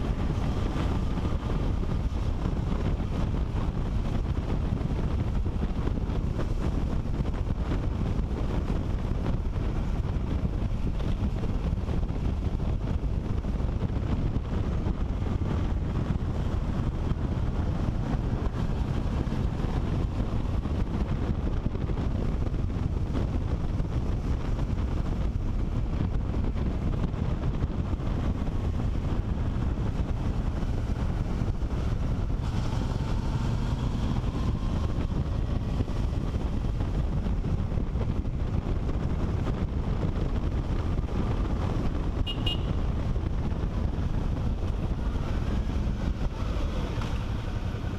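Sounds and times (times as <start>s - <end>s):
motorcycle engine running: 0.0s - 47.9s
wind rushing over microphone: 0.0s - 47.9s.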